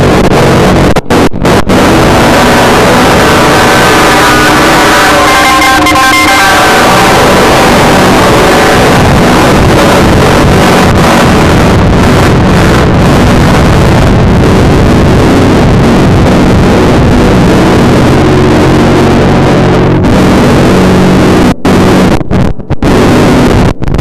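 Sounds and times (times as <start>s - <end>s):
heavily distorted band recording: 0.0s - 24.0s.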